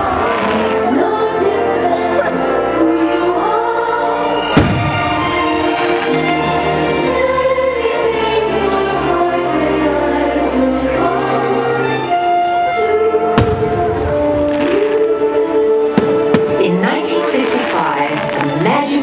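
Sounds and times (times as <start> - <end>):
choir singing with music: 0.0 - 19.0.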